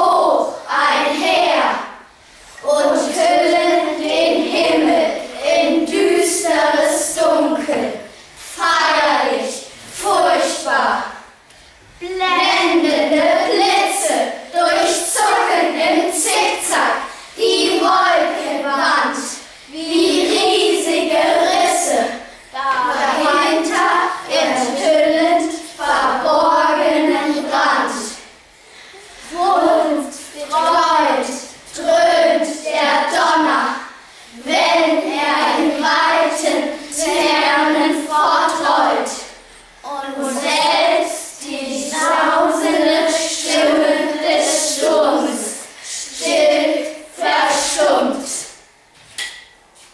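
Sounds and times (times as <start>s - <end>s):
children chanting in unison: 0.0s - 11.4s, 12.0s - 48.7s.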